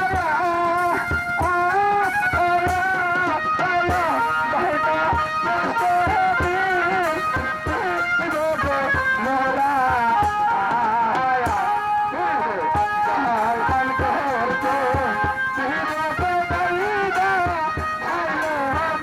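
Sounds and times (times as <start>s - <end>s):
drum kit beating: 0.0s - 19.0s
man singing into a microphone: 0.0s - 19.0s
string instrument: 0.0s - 19.0s.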